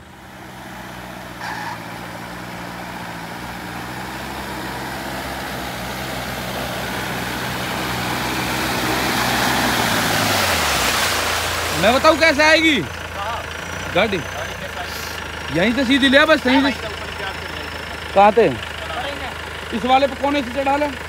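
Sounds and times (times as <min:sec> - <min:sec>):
engine running: 0:00.0 - 0:21.0
water and mud splashing: 0:00.0 - 0:21.0.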